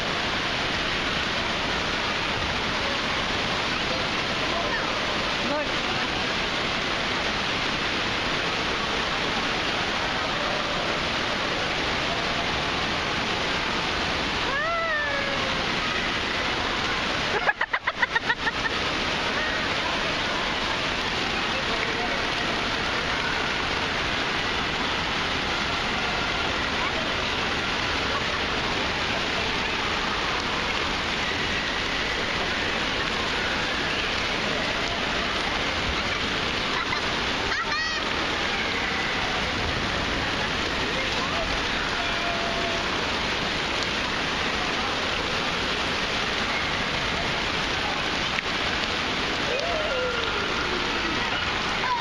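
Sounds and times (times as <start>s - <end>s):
falling and splashing water: 0.0s - 52.0s.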